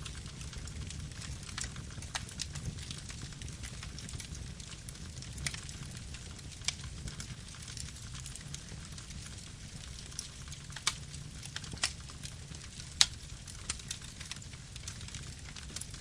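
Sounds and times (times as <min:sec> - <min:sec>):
low rumble of flames: 0:00.0 - 0:16.0
wood crackling and popping: 0:00.0 - 0:16.0.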